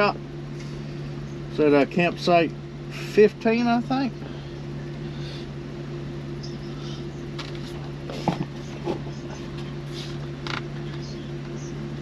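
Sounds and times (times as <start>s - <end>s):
vehicle idling: 0.0s - 12.0s.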